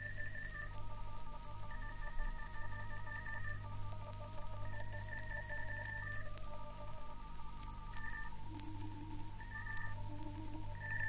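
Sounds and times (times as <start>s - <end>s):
organ chords: 0.0s - 11.0s.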